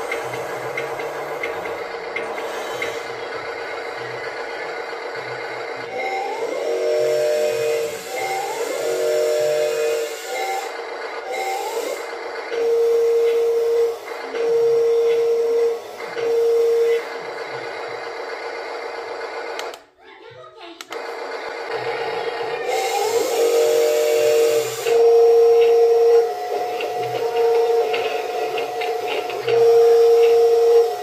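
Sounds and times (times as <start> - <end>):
small electric motors whining: 0.0 - 19.8, 21.0 - 31.0.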